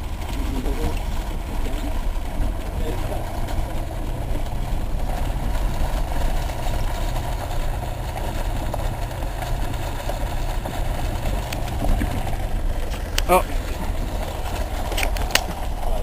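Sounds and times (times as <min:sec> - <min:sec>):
car engine drone: 0:00.0 - 0:16.0
low road rumble: 0:00.0 - 0:16.0.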